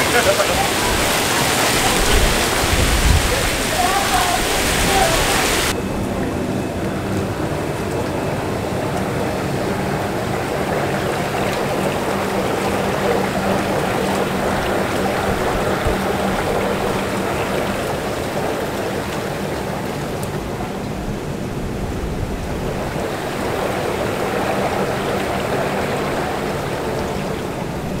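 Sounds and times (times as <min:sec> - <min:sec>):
hot tub jets bubbling: 0:00.0 - 0:28.0.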